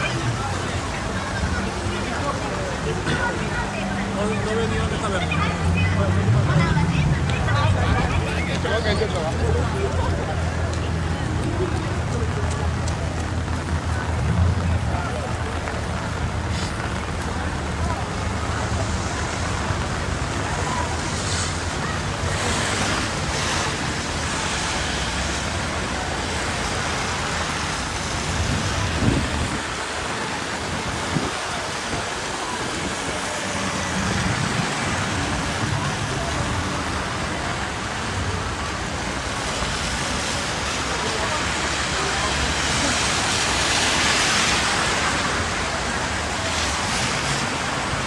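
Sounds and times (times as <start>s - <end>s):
rain hiss on wet street: 0.0s - 48.0s
traffic rumbling: 0.0s - 48.0s.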